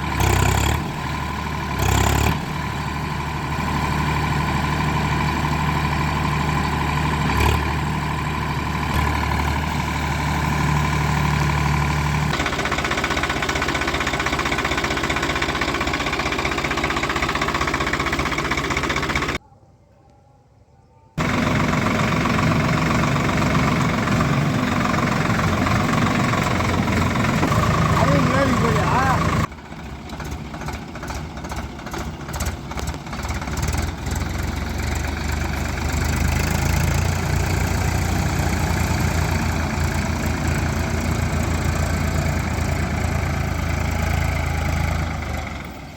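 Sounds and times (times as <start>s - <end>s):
tractor diesel engines running: 0.0s - 19.4s, 21.2s - 45.9s.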